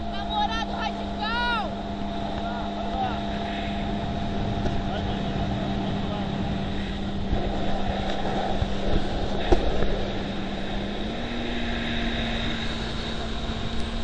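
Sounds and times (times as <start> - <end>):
motorboat engine running: 0.0 - 14.0
wind and water rush: 0.0 - 14.0.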